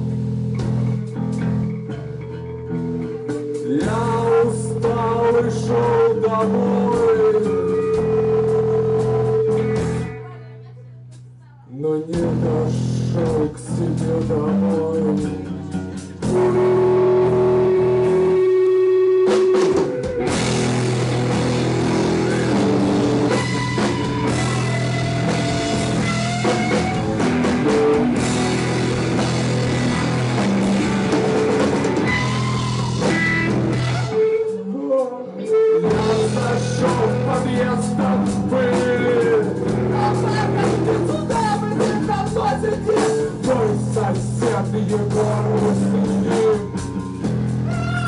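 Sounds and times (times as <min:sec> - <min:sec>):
rock band playing: 0:00.0 - 0:11.4, 0:12.1 - 0:48.0.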